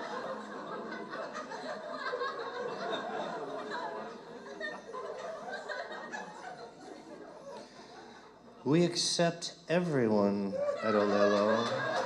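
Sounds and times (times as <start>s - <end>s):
audience laughter: 0.0s - 8.6s, 10.5s - 12.0s.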